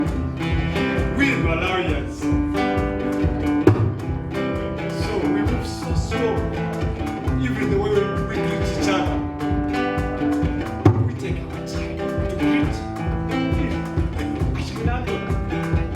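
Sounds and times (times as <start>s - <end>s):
acoustic guitar strumming: 0.0s - 15.9s.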